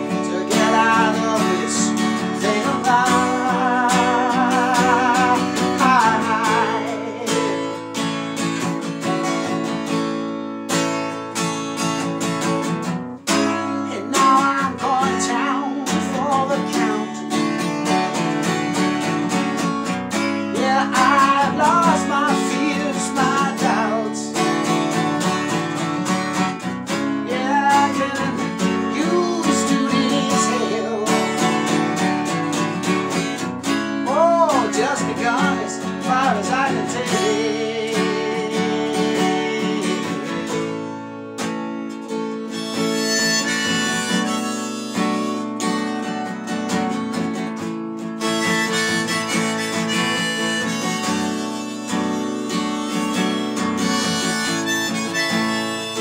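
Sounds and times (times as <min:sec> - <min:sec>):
acoustic guitar strumming: 0:00.0 - 0:56.0
harmonica bending lines: 0:00.5 - 0:08.9, 0:13.4 - 0:40.7, 0:42.3 - 0:46.0, 0:48.1 - 0:56.0.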